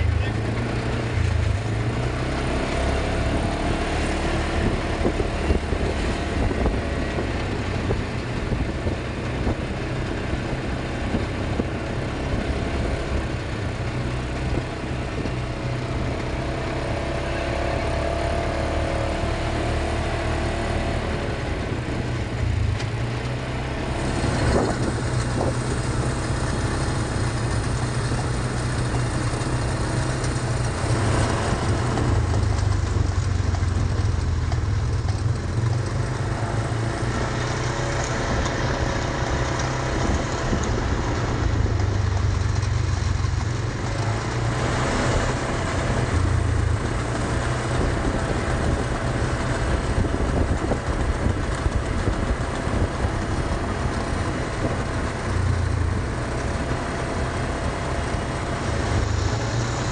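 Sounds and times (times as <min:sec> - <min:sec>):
quad bike engines running: 0:00.0 - 0:59.9.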